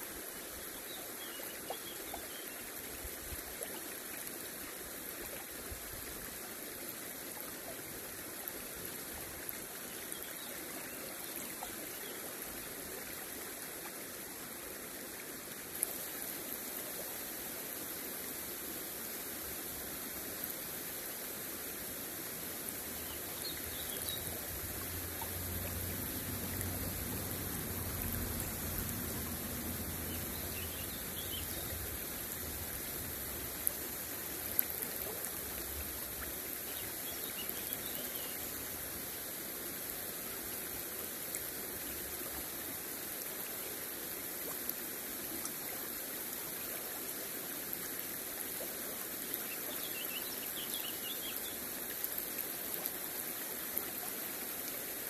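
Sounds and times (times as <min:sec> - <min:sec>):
river water rippling over stones: 0:00.0 - 0:55.0.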